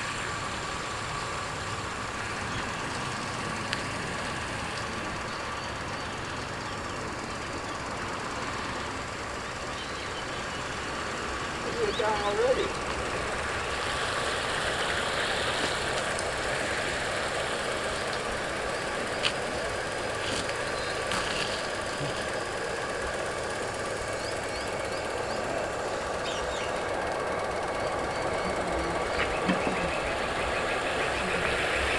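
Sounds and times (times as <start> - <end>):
rc boat motor drone: 0.0 - 31.9.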